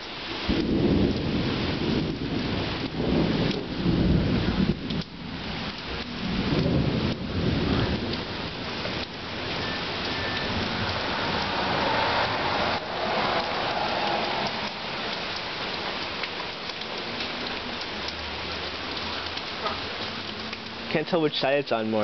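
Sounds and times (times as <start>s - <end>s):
rain hissing on surfaces: 0.0s - 22.0s.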